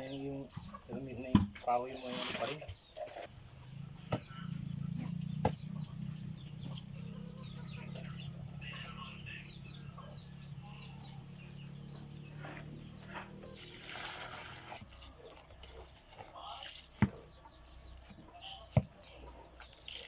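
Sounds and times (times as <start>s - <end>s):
chickens clucking and peeping: 0.0s - 13.8s, 14.7s - 19.8s.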